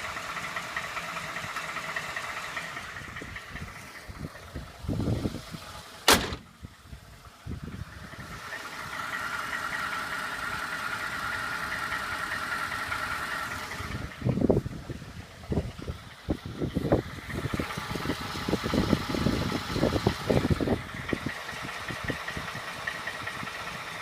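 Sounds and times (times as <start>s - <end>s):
truck engine running: 0.0s - 24.0s.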